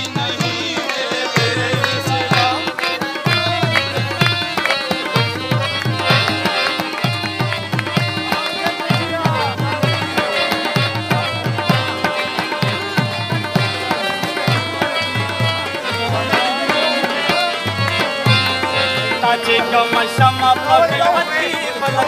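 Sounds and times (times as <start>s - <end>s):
harmonium: 0.0s - 22.0s
tabla beating: 0.0s - 22.0s.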